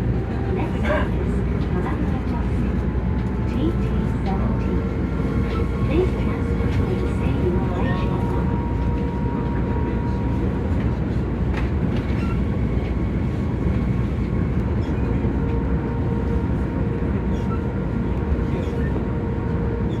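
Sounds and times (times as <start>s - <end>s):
monorail car rumbling: 0.0s - 20.0s.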